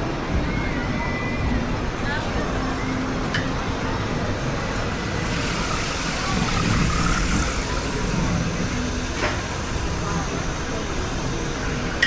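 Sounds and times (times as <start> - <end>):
faint voices: 0.0 - 12.0
road vehicle rumble: 1.4 - 12.0.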